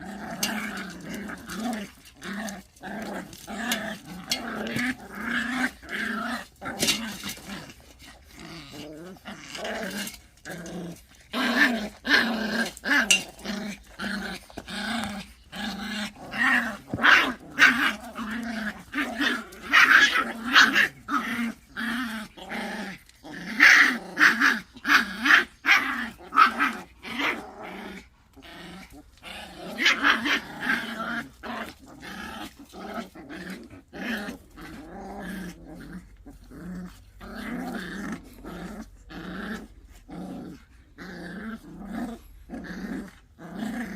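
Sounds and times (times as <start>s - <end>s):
puppies growling: 0.0s - 43.9s.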